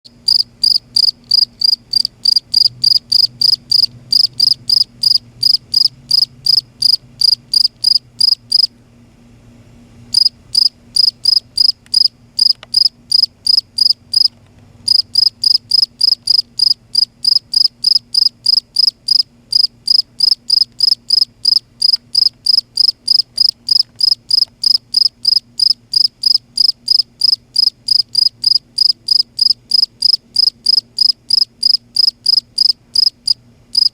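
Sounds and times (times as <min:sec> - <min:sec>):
cricket chirping: 0:00.2 - 0:08.7, 0:10.2 - 0:33.9.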